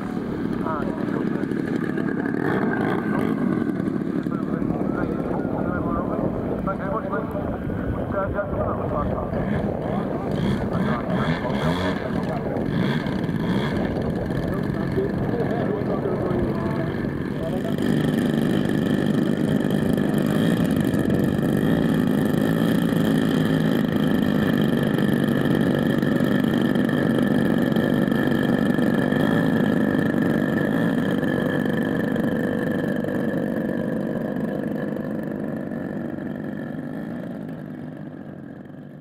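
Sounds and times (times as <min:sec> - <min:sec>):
model aircraft engines idling: 0:00.0 - 0:39.0.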